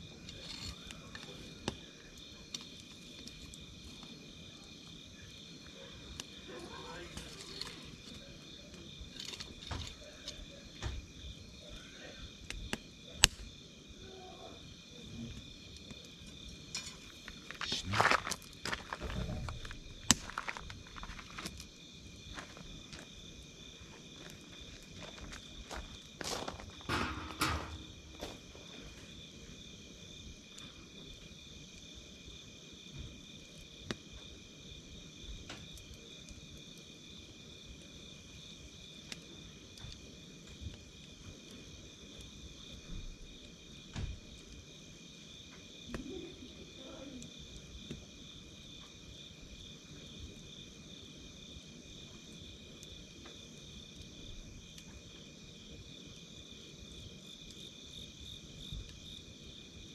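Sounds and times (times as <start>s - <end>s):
campfire crackling and popping: 0.0s - 59.9s
night insects trilling: 0.0s - 59.9s.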